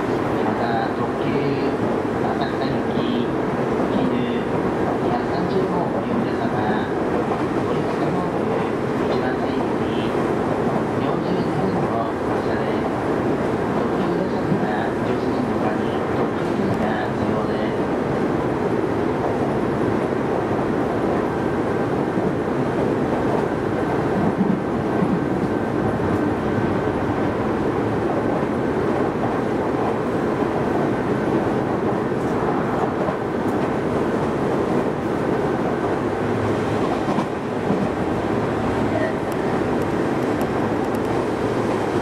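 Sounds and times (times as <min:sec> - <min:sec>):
wheels rumbling on rails: 0:03.5 - 0:42.0.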